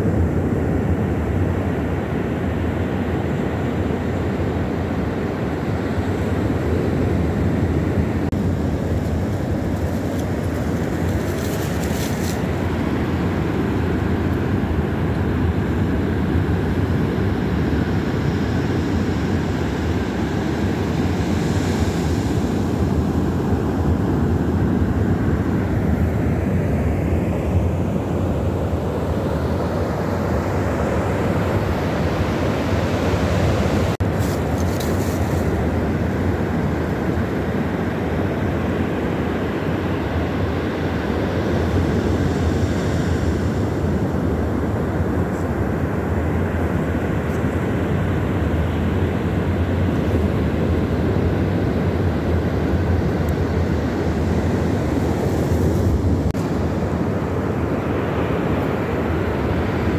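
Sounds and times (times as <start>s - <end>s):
wind on microphone: 0.0s - 59.9s.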